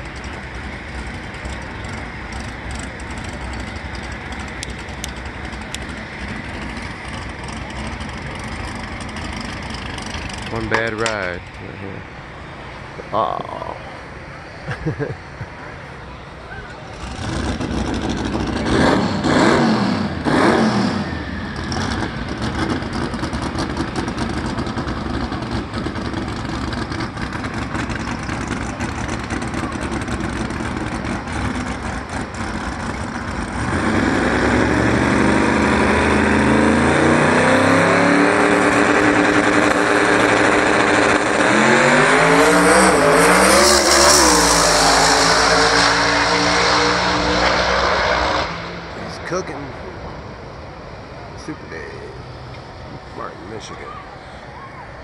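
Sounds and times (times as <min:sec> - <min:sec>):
drag racing car engine revving: 0:00.0 - 0:11.6, 0:16.9 - 0:50.2.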